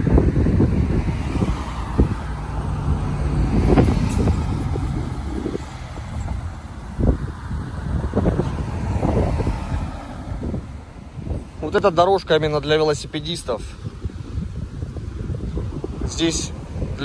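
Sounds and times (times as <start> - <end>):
cars driving past: 0.0 - 17.0
engine hum: 0.0 - 17.0.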